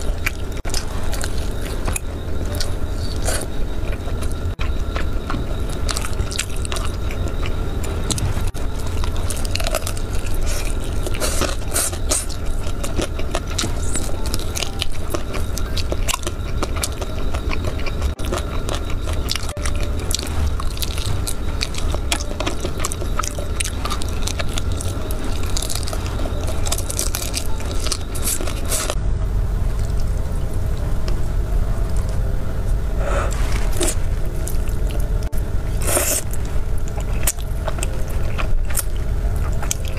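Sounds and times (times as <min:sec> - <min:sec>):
chewing crunchy fried chicken: 0:00.0 - 0:29.0, 0:29.7 - 0:31.2, 0:33.0 - 0:39.9
eating noodles: 0:00.0 - 0:29.0, 0:33.0 - 0:39.9.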